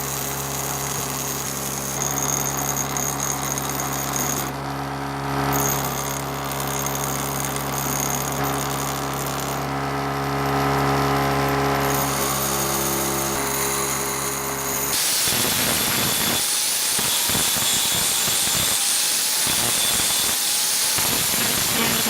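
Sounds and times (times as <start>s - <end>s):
power tool motor hum: 0.0s - 22.0s.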